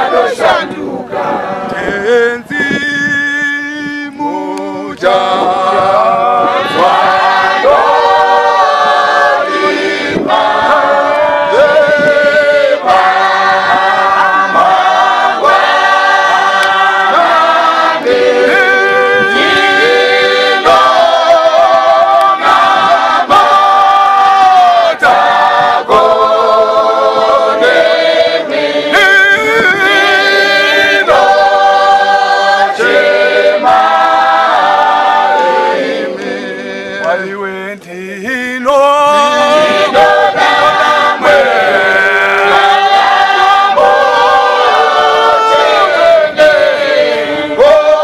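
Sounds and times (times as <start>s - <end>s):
group singing in harmony: 0.0s - 48.0s.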